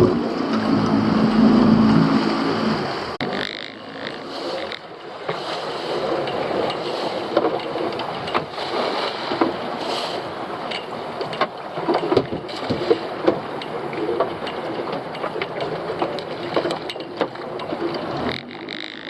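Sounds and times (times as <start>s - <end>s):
knocks and clatter on boat: 0.0s - 2.1s, 2.7s - 19.0s
steady wash of sea noise: 0.0s - 19.0s.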